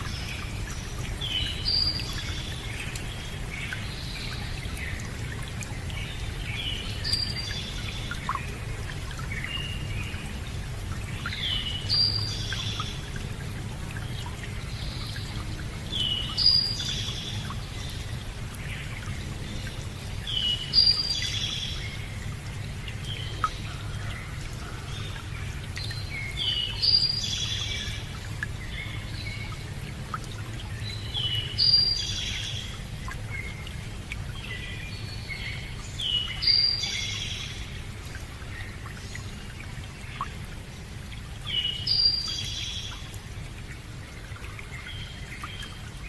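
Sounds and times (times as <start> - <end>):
birds singing: 0.0 - 8.6, 11.1 - 13.2, 13.9 - 40.5, 41.4 - 43.2
running water: 0.0 - 46.0.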